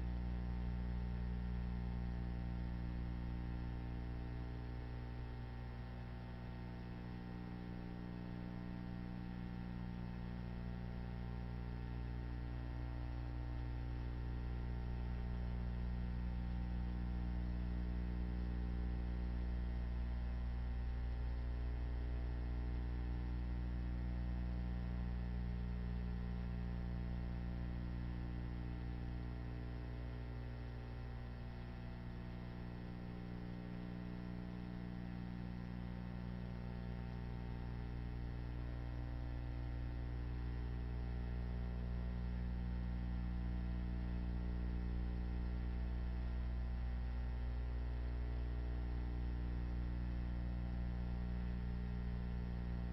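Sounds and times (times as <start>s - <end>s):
electrical mains hum: 0.0s - 52.9s.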